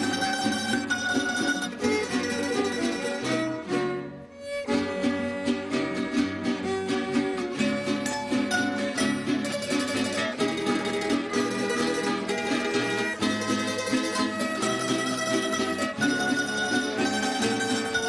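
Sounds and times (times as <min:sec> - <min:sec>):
plucked string instruments: 0:00.0 - 0:18.0
violins bowing melody: 0:00.0 - 0:18.0.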